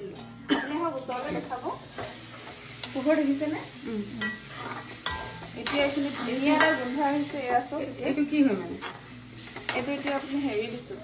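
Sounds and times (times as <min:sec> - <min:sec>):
mixture sizzling in pan: 0:00.8 - 0:11.0
metal spoon stirring and scraping: 0:01.1 - 0:11.0.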